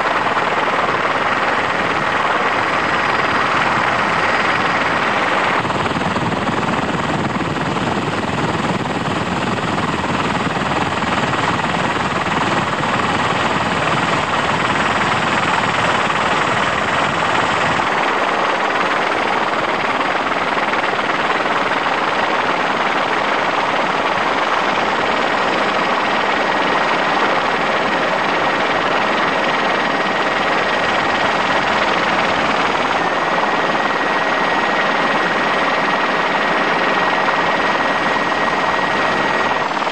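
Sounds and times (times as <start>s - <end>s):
helicopter noise from on board: 0.0s - 39.9s.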